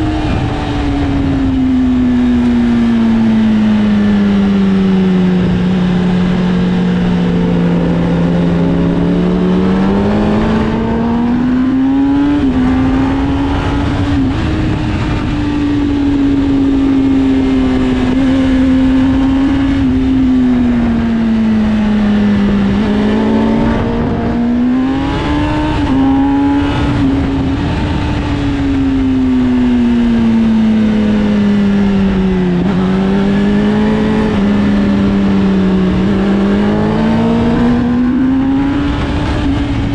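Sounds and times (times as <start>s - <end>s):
motorcycle engine revving: 0.0s - 39.9s
wind noise rushing: 3.8s - 39.9s.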